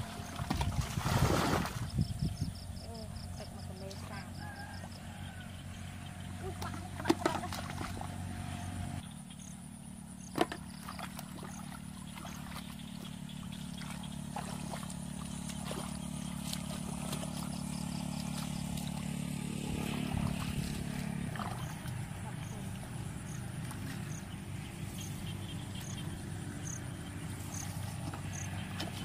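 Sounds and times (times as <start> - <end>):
engine humming: 1.8 - 29.0.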